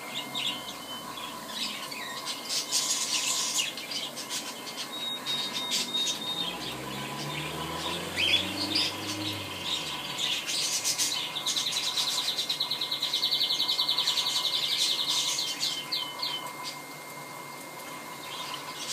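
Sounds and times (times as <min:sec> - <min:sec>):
small birds chirping: 0:00.0 - 0:16.8, 0:18.2 - 0:18.9
fast bird trill: 0:00.1 - 0:16.8.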